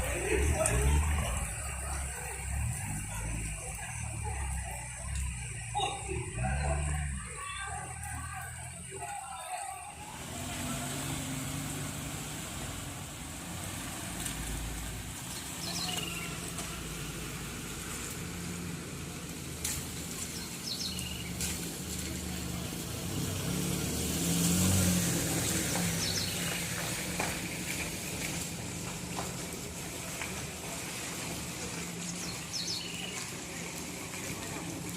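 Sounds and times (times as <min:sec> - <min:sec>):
vehicle engines running: 0:00.0 - 0:34.9
vehicle passing: 0:00.0 - 0:34.9.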